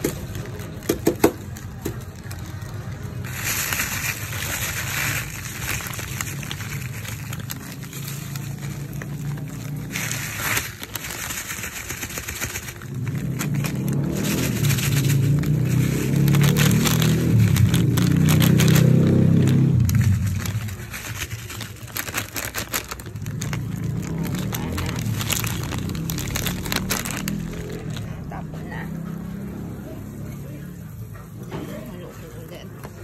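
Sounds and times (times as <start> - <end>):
plastic bag rustling: 0.0 - 29.4.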